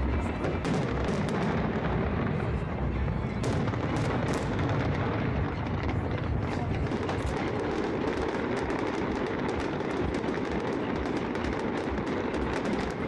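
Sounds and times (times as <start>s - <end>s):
fireworks booming: 0.0s - 13.0s
fireworks cracks and bangs: 0.0s - 13.0s.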